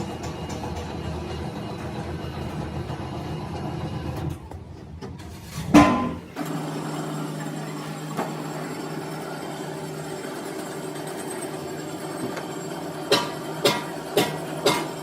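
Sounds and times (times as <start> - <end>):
workshop machine hum: 0.0 - 15.0.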